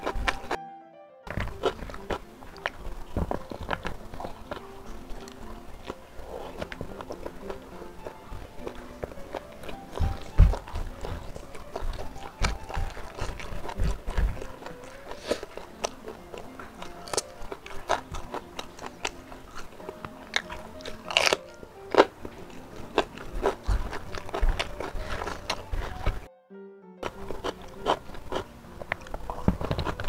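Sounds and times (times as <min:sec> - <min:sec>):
faint background music: 0:00.0 - 0:30.0
wet chewing and lip smacks: 0:01.3 - 0:26.3, 0:27.0 - 0:30.0.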